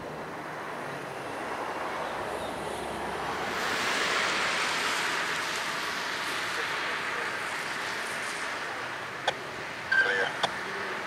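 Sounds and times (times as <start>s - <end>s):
road traffic tyre hiss: 0.0s - 11.0s.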